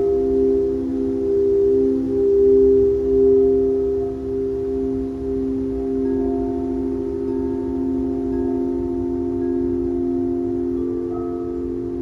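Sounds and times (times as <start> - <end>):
singing bowls ringing: 0.0 - 12.0.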